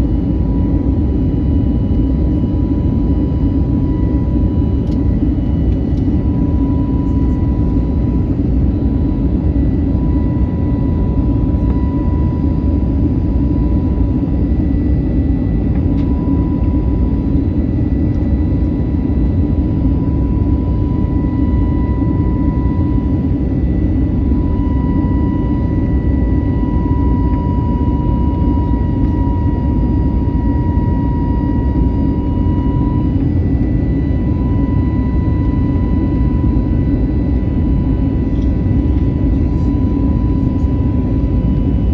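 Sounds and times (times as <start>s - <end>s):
jet engine rumble in cabin: 0.0s - 41.9s
thin engine whine: 0.0s - 41.9s.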